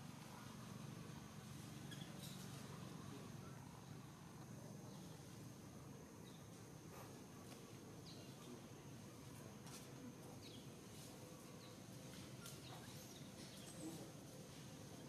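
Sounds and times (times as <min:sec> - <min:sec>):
high insect hum: 0:00.1 - 0:15.0
faint chirps: 0:01.4 - 0:15.0.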